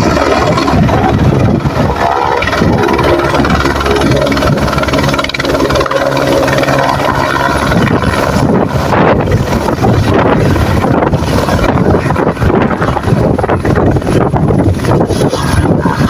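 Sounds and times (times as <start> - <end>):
helicopter engine and rotor: 0.0 - 16.0
wind buffeting microphone: 0.0 - 16.0.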